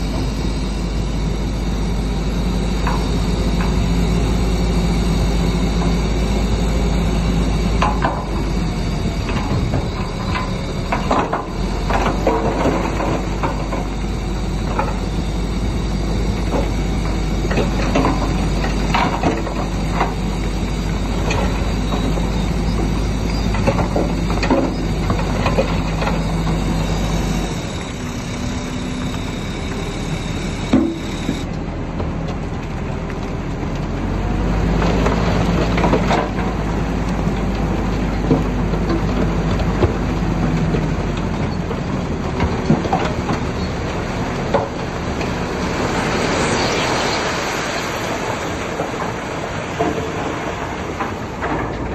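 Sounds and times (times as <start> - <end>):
bulldozer diesel engine: 0.0 - 51.9.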